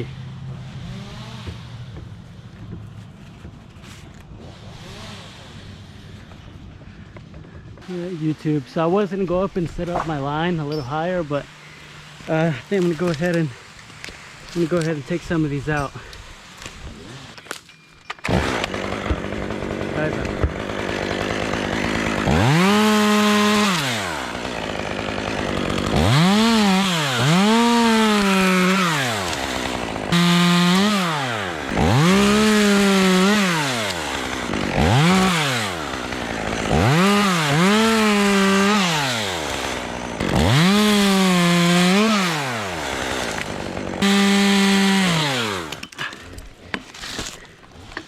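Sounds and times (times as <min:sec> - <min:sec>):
chainsaw revving and idling: 0:00.0 - 0:02.3, 0:04.2 - 0:06.4, 0:07.8 - 0:17.4, 0:18.2 - 0:48.0.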